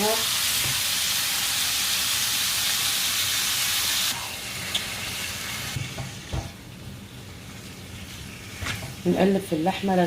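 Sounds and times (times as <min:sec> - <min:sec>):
beef sizzling in oil: 0:00.0 - 0:09.4.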